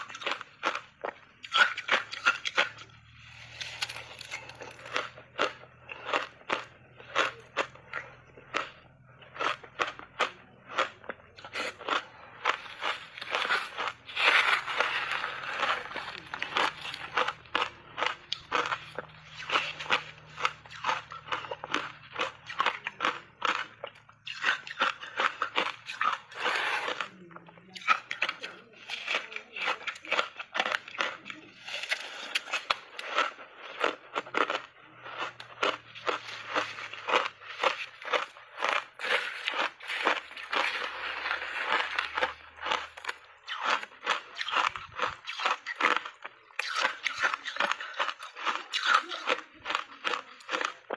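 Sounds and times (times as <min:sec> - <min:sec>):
crunching shaved ice: 0:00.0 - 0:50.9.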